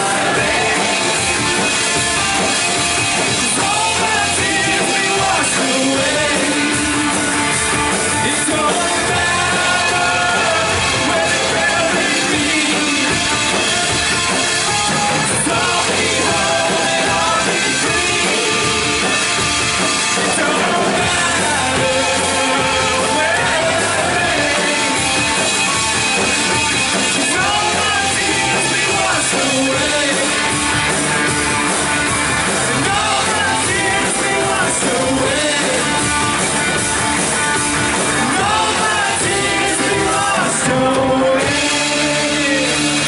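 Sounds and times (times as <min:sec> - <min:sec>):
people singing: 0:00.0 - 0:25.8, 0:26.9 - 0:30.6, 0:32.6 - 0:36.1, 0:38.0 - 0:43.0
worship band playing upbeat song: 0:00.0 - 0:43.0.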